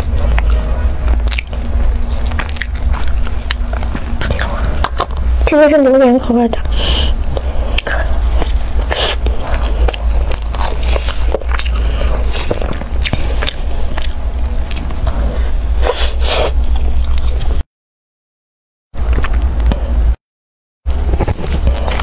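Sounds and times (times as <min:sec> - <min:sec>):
chewing a soft pastry: 0:00.0 - 0:05.2, 0:07.3 - 0:17.6, 0:19.0 - 0:20.0, 0:21.0 - 0:22.0
steady low hum: 0:00.0 - 0:17.6, 0:19.0 - 0:20.2, 0:20.9 - 0:22.0.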